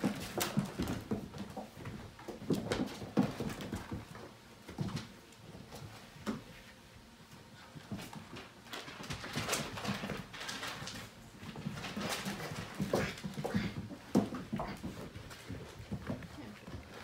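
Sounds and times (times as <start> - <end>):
puppy paws scrabbling: 0.0 - 6.7, 7.5 - 17.0.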